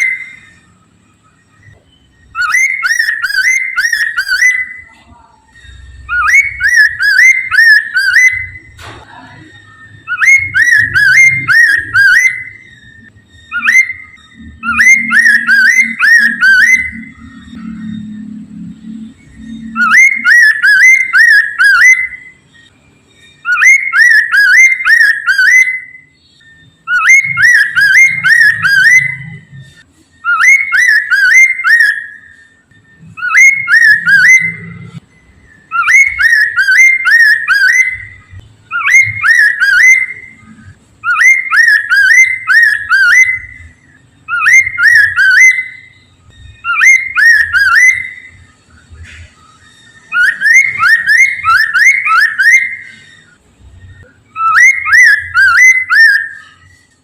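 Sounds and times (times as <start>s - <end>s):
bird whistling repeated notes: 0.0s - 57.0s.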